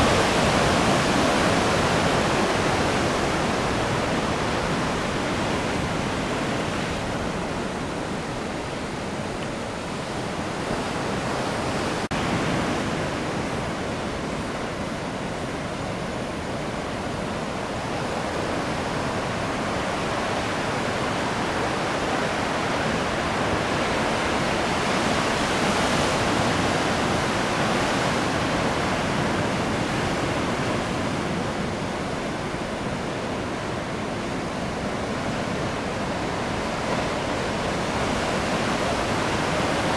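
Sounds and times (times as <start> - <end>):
heavy surf breaking waves: 0.0 - 39.9.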